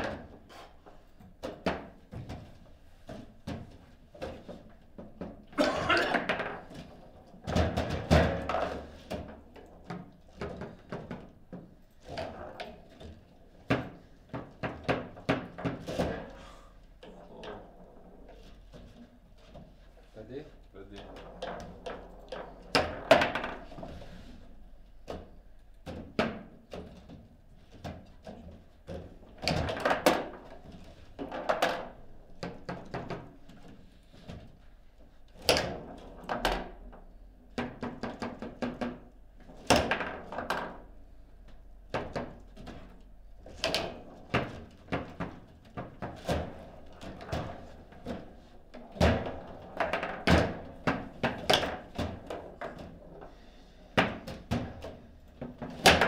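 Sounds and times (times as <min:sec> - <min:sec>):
foosball ball knocks and clacks: 0:00.0 - 0:20.0, 0:20.6 - 0:56.0
foosball rods knocking: 0:01.3 - 0:19.9, 0:21.0 - 0:24.2, 0:27.7 - 0:56.0.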